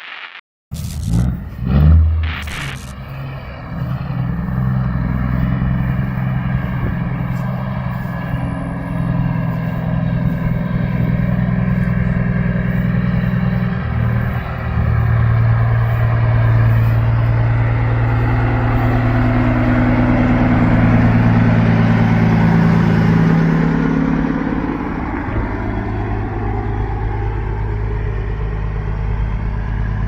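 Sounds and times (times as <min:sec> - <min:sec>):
vehicle engine running: 0:00.8 - 0:30.0.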